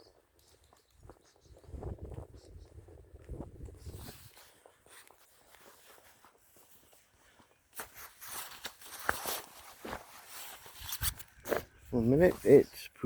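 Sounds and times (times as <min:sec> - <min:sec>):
footsteps scuffing on walk: 0:00.0 - 0:12.7.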